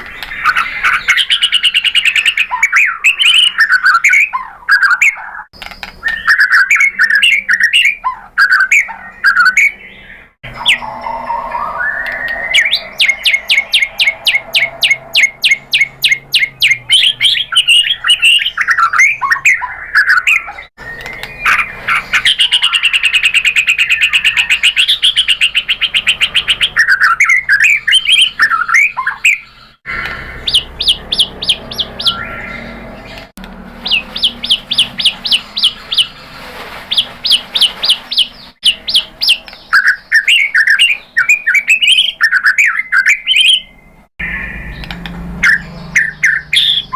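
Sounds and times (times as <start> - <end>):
songbird singing loudly: 0.0 - 46.9.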